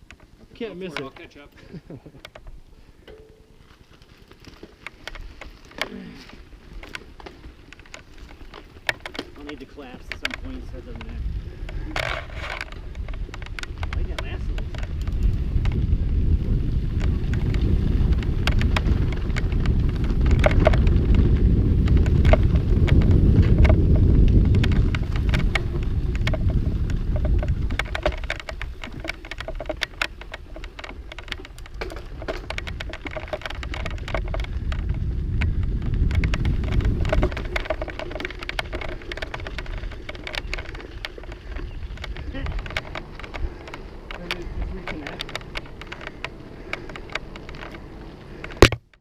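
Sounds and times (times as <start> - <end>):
bike rattling: 0.0 - 49.0
bike tyres crackling over stones: 0.0 - 49.0
wind rumble on microphone: 5.0 - 49.0.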